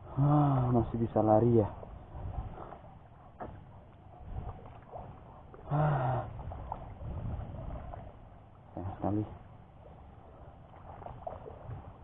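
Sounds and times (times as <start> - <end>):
water sloshing underfoot: 0.0 - 12.0.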